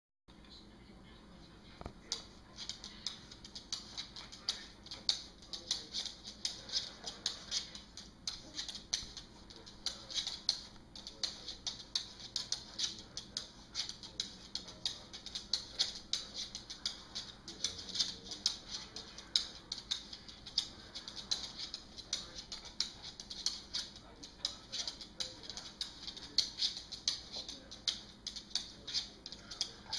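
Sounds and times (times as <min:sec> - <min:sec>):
dog claws clicking on hardwood: 0:02.1 - 0:29.9.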